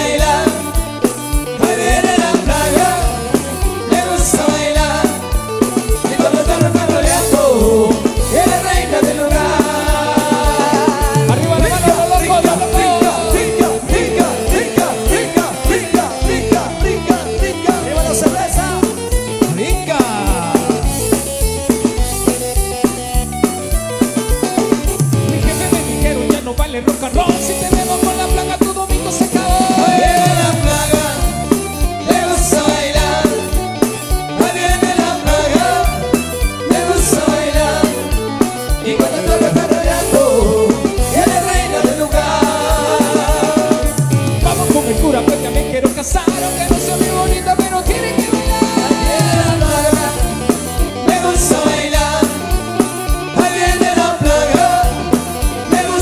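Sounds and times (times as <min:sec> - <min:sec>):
drum kit beat: 0:00.0 - 0:56.0
marimba band playing dance music: 0:00.0 - 0:56.0.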